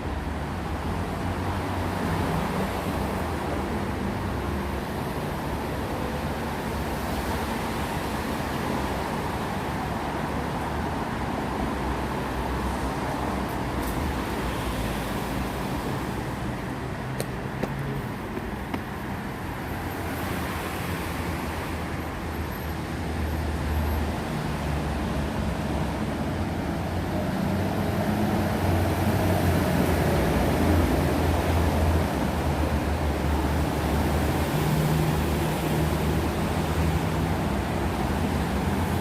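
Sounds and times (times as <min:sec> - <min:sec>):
vehicle road noise rumble: 0:00.0 - 0:39.0.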